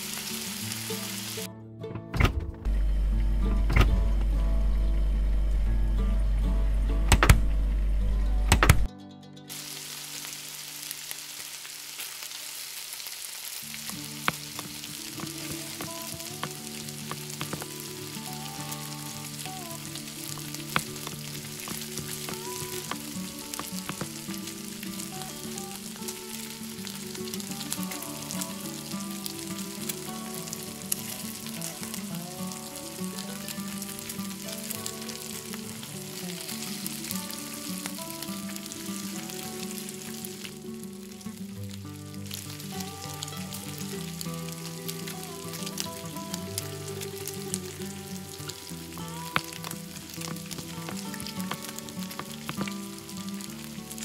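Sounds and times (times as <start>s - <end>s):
food sizzling in a small wok: 0.0s - 1.5s, 9.5s - 54.0s.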